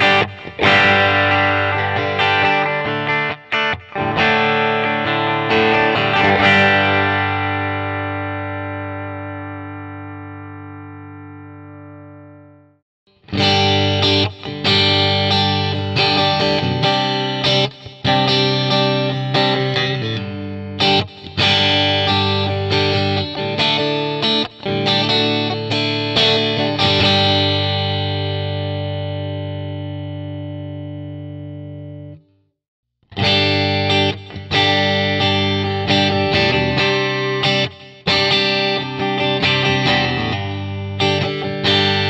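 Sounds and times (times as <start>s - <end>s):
clean electric guitar chords: 0.0s - 32.3s, 33.1s - 42.0s.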